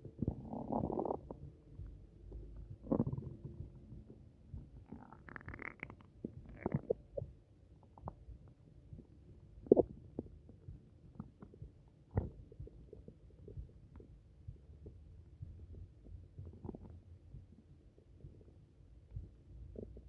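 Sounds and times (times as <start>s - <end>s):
stomach gurgling: 0.0s - 20.0s.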